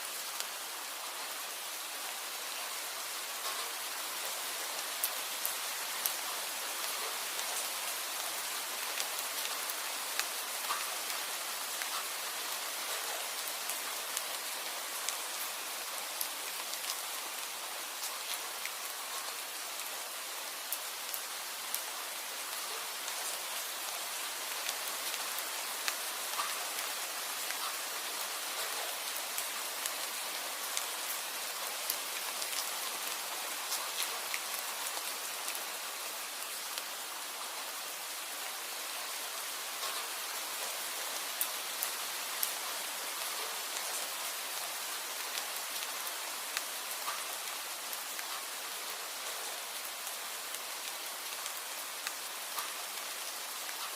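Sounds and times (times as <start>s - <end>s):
steady rain falling: 0.0s - 53.9s
sharp raindrops hitting: 3.4s - 19.9s, 22.7s - 35.6s, 39.8s - 53.9s.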